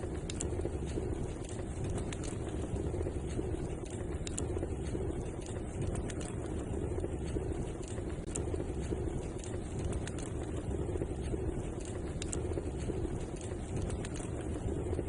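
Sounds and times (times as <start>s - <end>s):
fire crackles and pops: 0.0s - 15.0s
wood fire burning: 0.0s - 15.0s.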